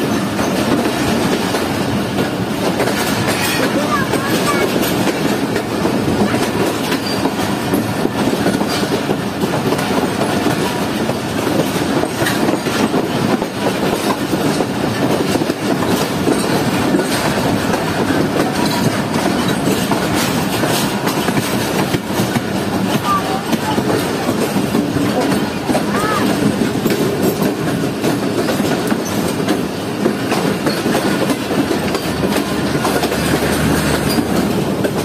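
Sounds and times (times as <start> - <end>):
clickety-clack over rail joints: 0.0 - 35.0
train wheels rumbling on rails: 0.0 - 35.0.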